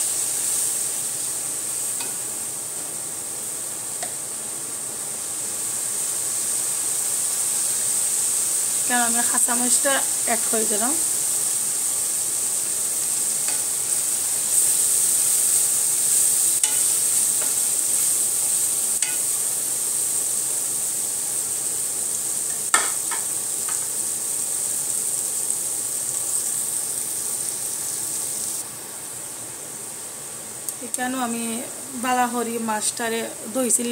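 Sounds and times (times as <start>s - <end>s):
chilies sizzling in hot oil: 0.0s - 33.9s.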